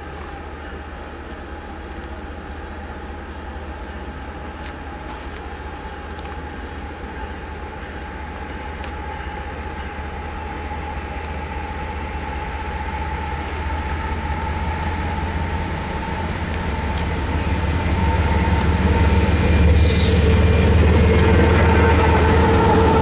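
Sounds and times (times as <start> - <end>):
diesel train rumble: 0.0 - 23.0.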